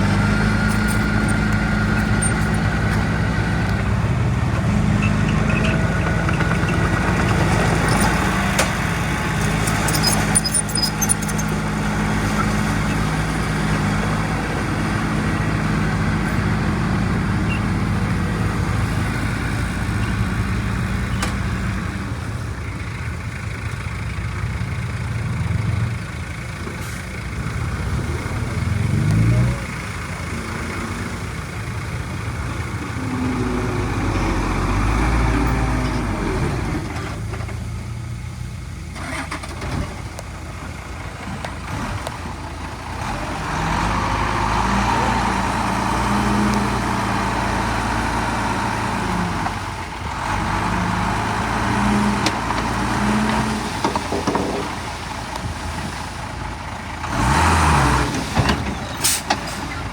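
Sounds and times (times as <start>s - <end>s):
heavy diesel engines revving: 0.0s - 59.9s.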